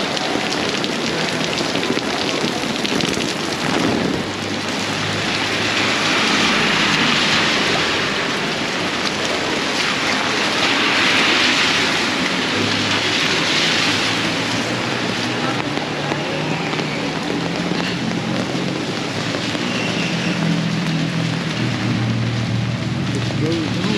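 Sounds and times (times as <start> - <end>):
heavy rain splashing on street: 0.0 - 23.9.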